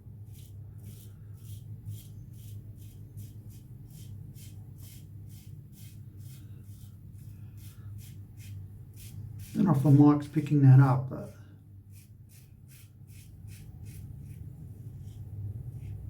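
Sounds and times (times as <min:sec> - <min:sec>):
steady low hum: 0:00.0 - 0:16.0
razor scraping stubble: 0:00.3 - 0:16.0.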